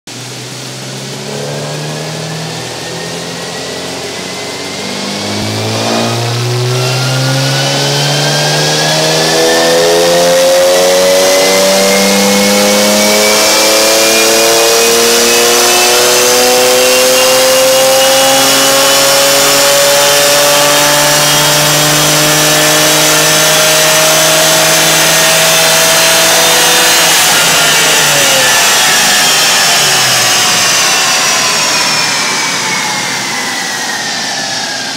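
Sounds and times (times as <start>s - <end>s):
car engine revving on dyno: 0.1s - 34.9s.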